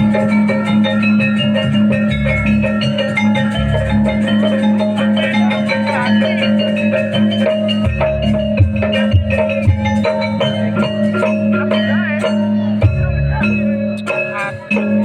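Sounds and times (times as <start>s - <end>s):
gamelan metallophones: 0.0s - 15.0s.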